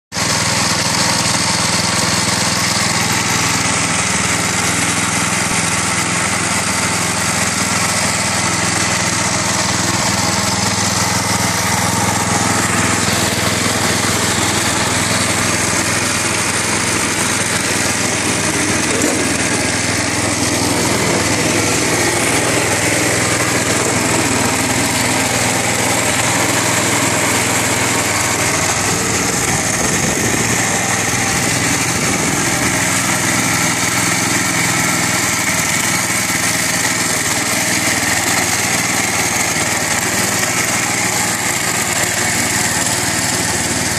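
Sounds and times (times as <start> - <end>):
small engine running: 0.1 - 43.9.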